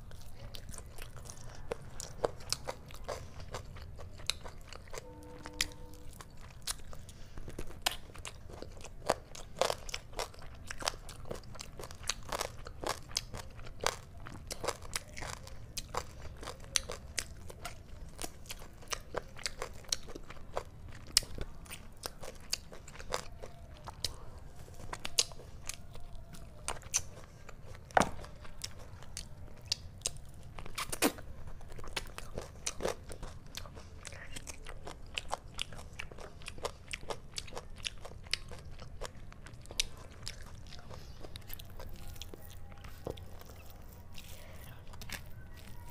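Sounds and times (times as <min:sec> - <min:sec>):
chewing and mouth smacks: 0:00.0 - 0:45.9.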